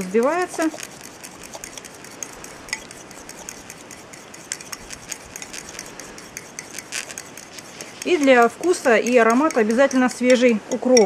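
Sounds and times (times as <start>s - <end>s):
whisk clicking against bowl: 0.0s - 11.0s.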